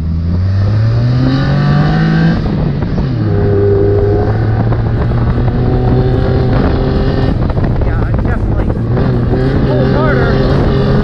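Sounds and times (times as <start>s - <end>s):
buggy engine under throttle: 0.0s - 11.0s.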